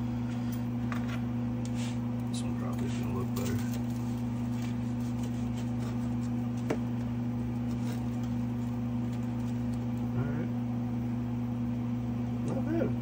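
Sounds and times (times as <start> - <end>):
appliance motor humming: 0.0 - 13.0.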